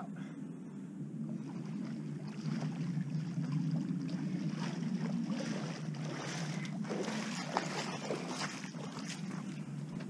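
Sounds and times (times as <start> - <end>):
steady low hum: 0.0 - 10.0
wading through water: 0.8 - 10.0.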